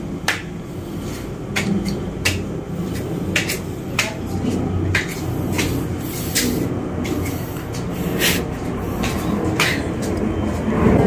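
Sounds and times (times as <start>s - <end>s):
child's footsteps on stairs: 0.0s - 10.8s
low background rumble: 0.0s - 11.0s.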